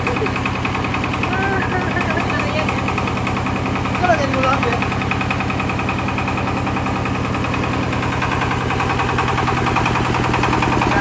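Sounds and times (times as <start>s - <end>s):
rice milling machine engine running: 0.0s - 11.0s.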